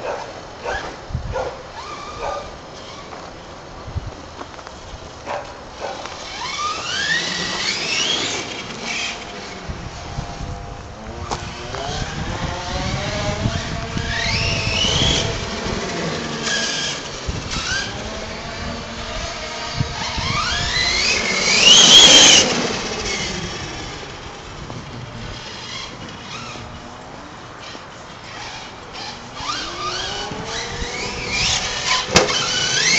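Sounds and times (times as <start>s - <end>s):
toy car motor whining: 1.7s - 3.3s, 5.8s - 26.9s, 27.6s - 32.9s.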